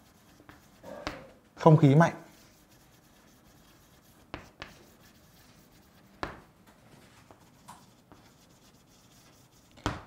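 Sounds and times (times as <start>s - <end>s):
chalk taps: 0.0s - 1.3s, 2.3s - 6.5s, 7.3s - 10.0s
chalk scratching on blackboard: 0.0s - 6.4s, 7.3s - 10.0s.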